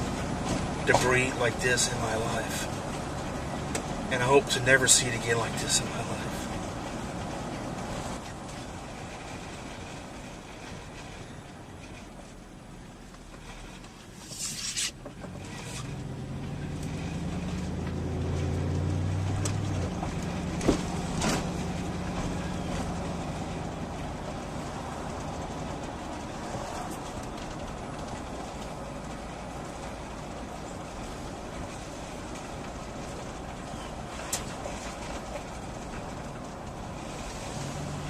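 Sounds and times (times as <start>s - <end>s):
vehicle engine low rumble: 0.0s - 38.0s.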